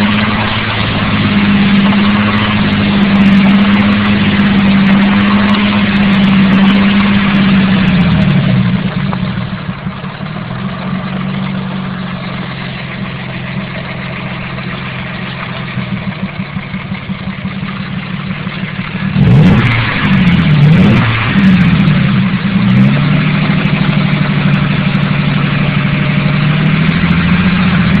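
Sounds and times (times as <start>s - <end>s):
car engine revving and idling: 0.0s - 28.0s.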